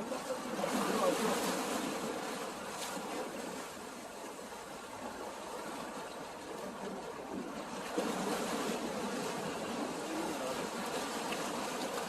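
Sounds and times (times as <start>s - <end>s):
sea water rushing: 0.0s - 12.0s
wind: 0.0s - 12.0s.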